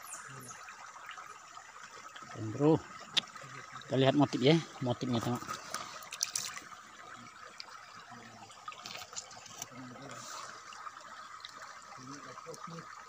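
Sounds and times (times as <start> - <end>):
river water running: 0.0 - 13.0.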